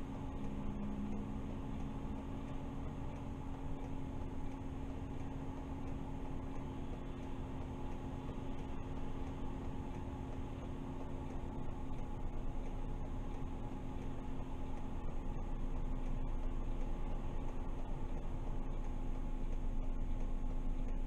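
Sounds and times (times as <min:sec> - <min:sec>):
bus engine idling hum: 0:00.0 - 0:21.0.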